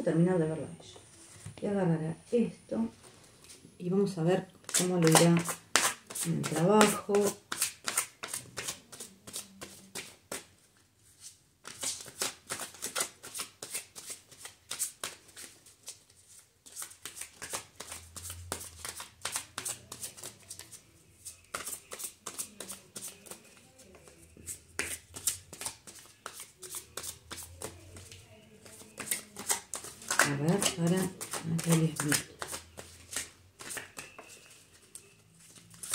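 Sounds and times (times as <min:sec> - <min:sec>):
cards being shuffled: 0:04.6 - 0:10.5, 0:11.2 - 0:20.8, 0:21.5 - 0:34.8, 0:35.4 - 0:35.9.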